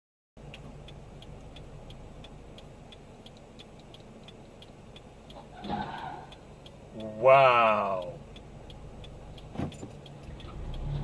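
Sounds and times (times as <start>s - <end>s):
turn signal ticking: 0.4s - 11.0s.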